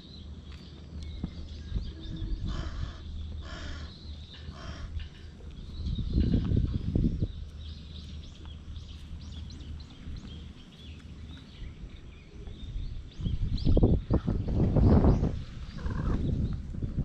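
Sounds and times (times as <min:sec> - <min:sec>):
birds chirping: 0:00.0 - 0:17.0
low steady rumble: 0:00.0 - 0:17.0.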